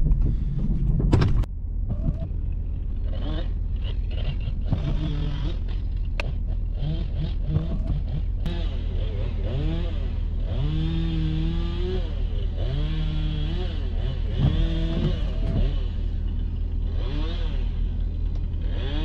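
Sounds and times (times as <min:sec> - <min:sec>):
low engine hum: 0:00.0 - 0:19.0
chainsaw revving: 0:03.0 - 0:19.0.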